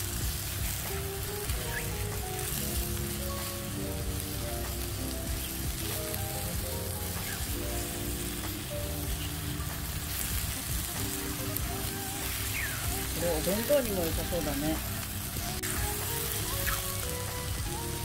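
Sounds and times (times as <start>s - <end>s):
background music: 0.0s - 18.0s
mushrooms sizzling in a pan: 0.0s - 18.0s.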